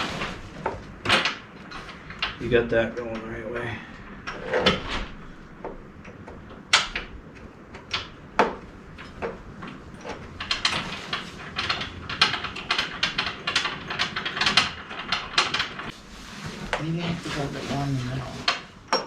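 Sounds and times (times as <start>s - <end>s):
bolts clicking: 0.0s - 16.0s
metal clanks and scraping: 0.0s - 19.0s.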